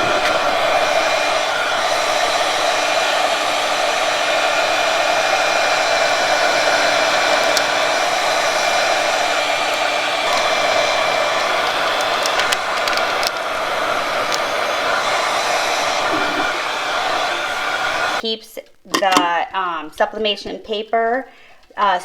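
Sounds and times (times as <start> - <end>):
heat gun blowing air: 0.0 - 18.2.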